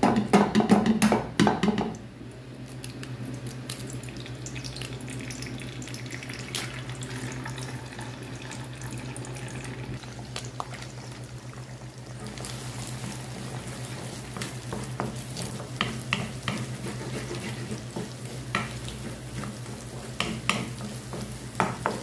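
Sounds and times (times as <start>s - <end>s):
eggs sizzling in oil: 3.2s - 22.0s.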